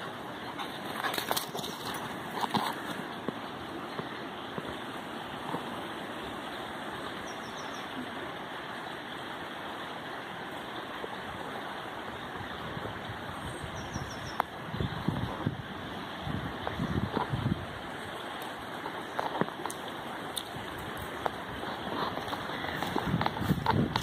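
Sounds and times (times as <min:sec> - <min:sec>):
brook babbling over stones: 0:00.0 - 0:24.0.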